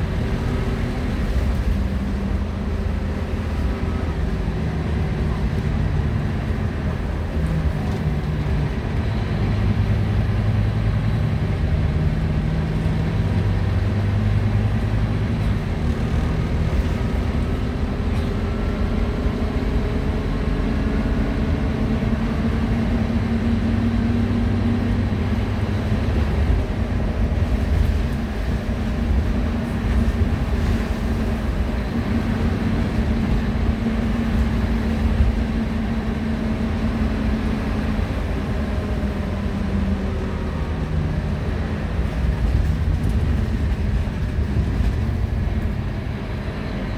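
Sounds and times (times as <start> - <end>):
bus engine running: 0.0 - 46.9
road noise: 0.0 - 46.9.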